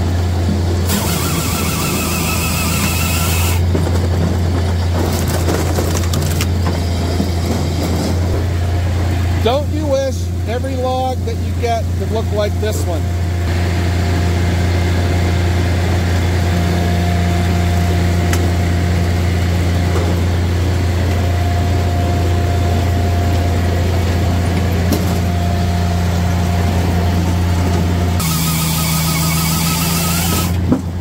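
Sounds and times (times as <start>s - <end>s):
firewood processor idling: 0.0s - 31.0s.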